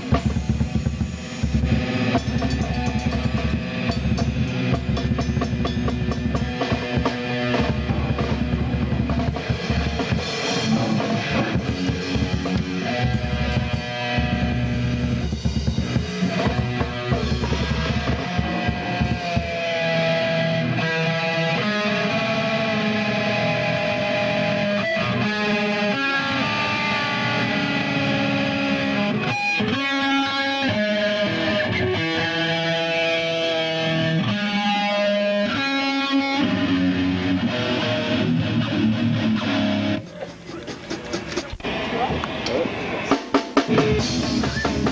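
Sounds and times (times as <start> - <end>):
distorted electric guitar: 0.0 - 44.9
drum kit: 0.0 - 44.9.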